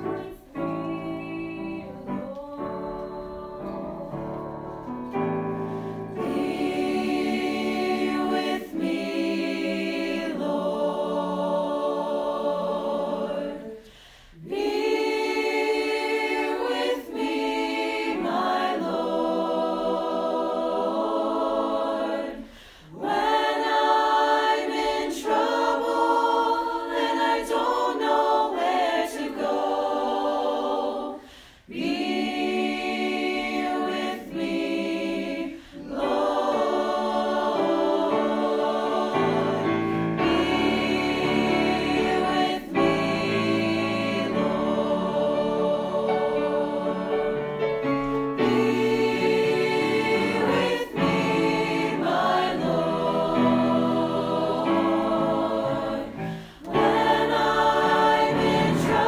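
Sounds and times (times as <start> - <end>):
choir singing sacred music: 0.0 - 59.0.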